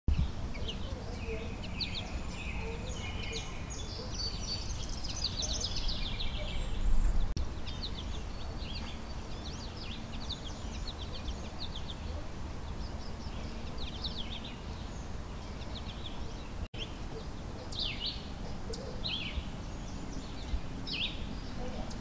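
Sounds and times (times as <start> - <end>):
finches twittering and chirping: 0.1 - 22.0.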